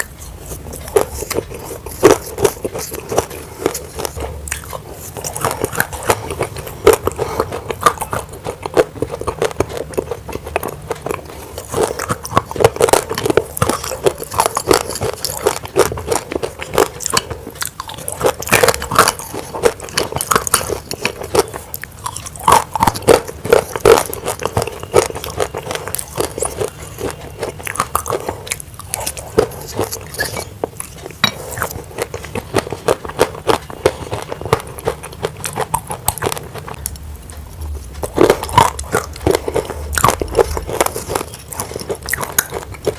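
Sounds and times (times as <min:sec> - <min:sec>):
chewing crunchy clay: 0:00.0 - 0:42.9.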